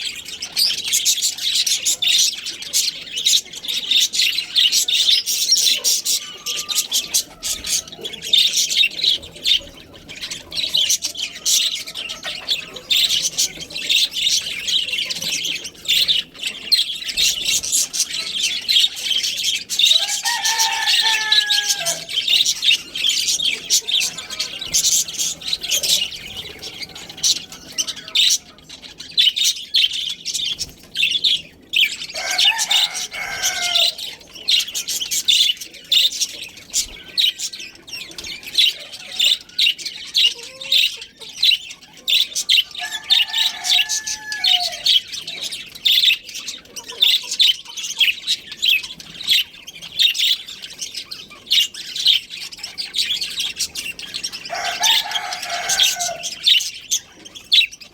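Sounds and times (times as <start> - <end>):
budgerigars chattering: 0.0 - 57.9.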